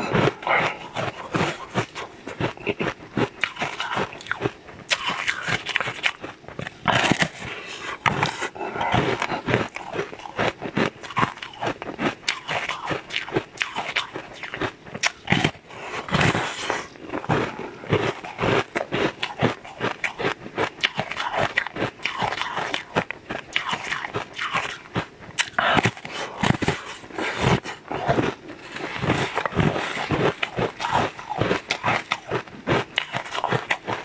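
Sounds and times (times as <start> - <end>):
crunching and chewing frozen treat: 0.0 - 34.0.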